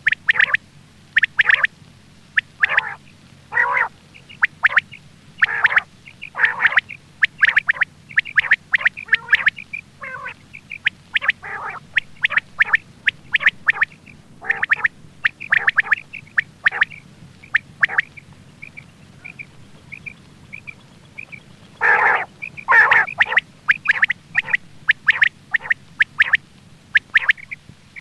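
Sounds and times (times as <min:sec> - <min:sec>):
quail calling: 0:00.0 - 0:00.6, 0:01.2 - 0:01.7, 0:02.3 - 0:28.0.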